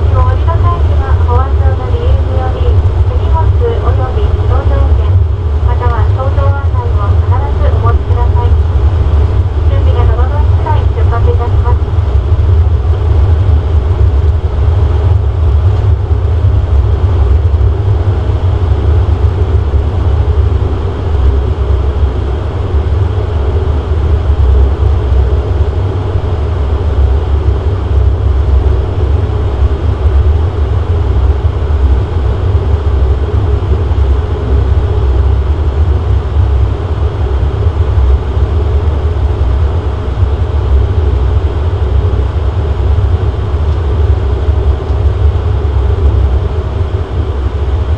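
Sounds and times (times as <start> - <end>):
turboprop drone in cabin: 0.0 - 47.9.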